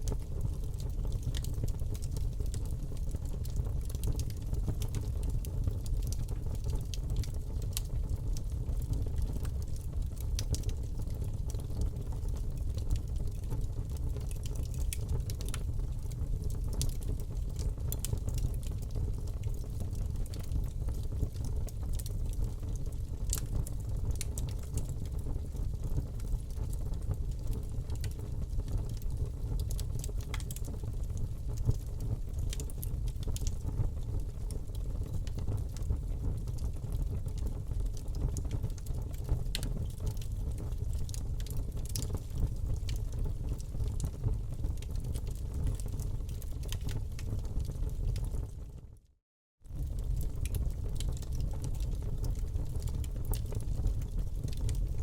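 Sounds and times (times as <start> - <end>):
fire crackles and pops: 0.0 - 49.0, 49.7 - 55.0.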